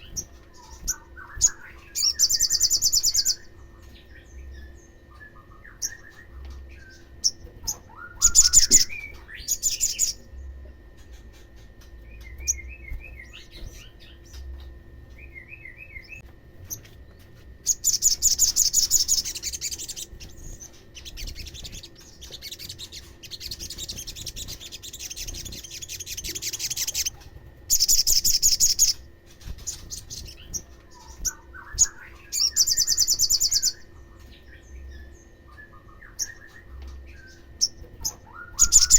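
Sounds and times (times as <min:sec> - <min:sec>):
twittering chirps: 0:00.0 - 0:16.2, 0:17.6 - 0:38.9
sunbird trilling song: 0:00.0 - 0:16.8, 0:17.6 - 0:38.9
faint steady hum: 0:00.0 - 0:38.9.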